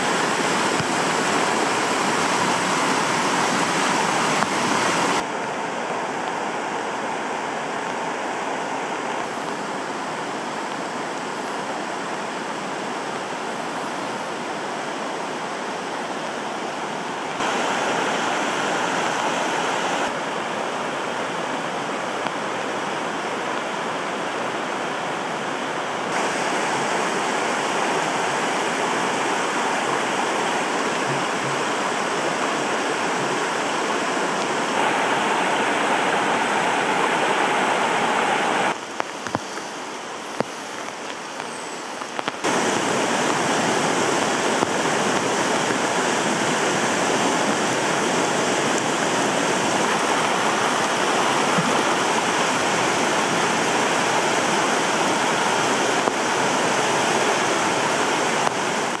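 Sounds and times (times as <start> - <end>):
floodwater rushing and churning: 0.0 - 59.0.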